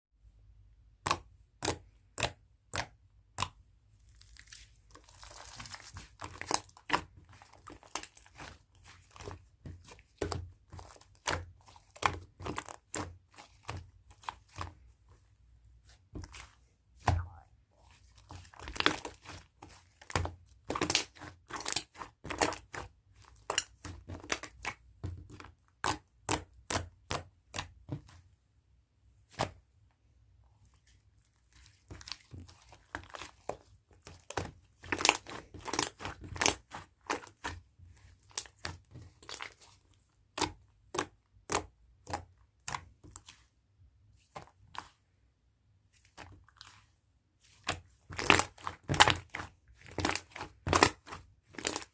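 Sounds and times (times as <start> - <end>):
slime crackling: 1.6 - 14.9, 15.8 - 27.7, 31.4 - 43.4, 46.0 - 51.9.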